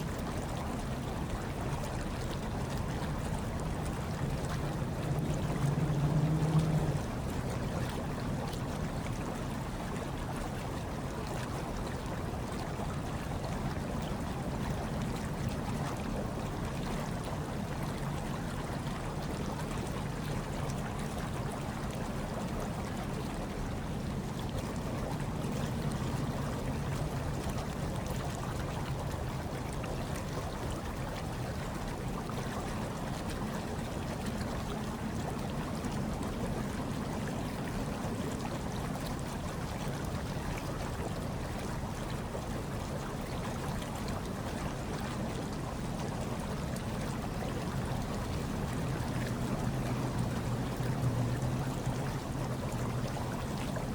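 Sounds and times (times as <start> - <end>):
hot tub water bubbling: 0.0 - 53.9.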